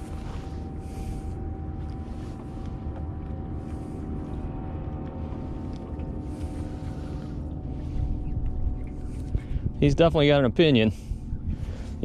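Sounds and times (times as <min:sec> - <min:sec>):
boat motor droning: 0:00.0 - 0:12.0
faint steady hum: 0:00.0 - 0:12.0.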